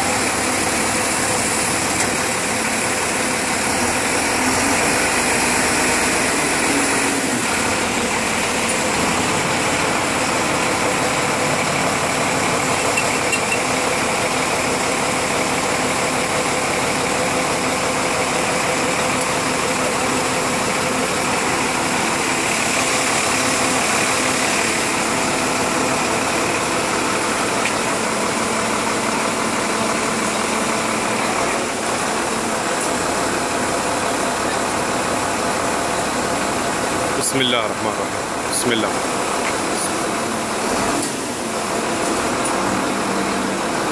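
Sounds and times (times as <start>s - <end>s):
motor engine running steadily: 0.0s - 43.9s.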